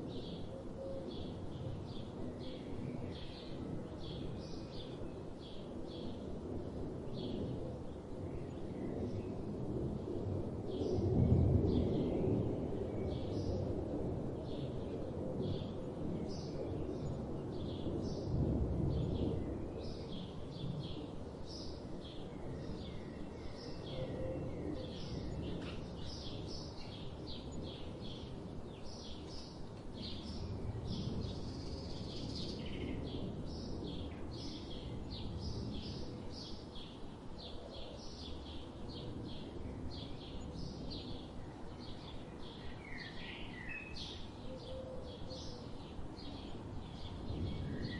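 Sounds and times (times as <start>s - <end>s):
low background noise: 0.0s - 47.9s.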